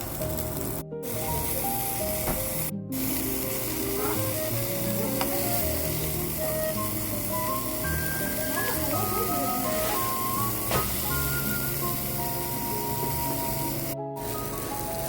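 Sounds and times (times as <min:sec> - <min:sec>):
background music: 0:00.0 - 0:15.0
food sizzling in frying pan: 0:00.0 - 0:15.0.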